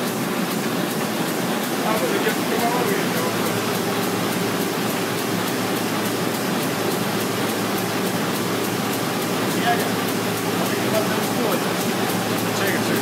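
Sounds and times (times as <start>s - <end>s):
printing press mechanical din: 0.0s - 13.0s
rapid regular ticking: 0.0s - 13.0s.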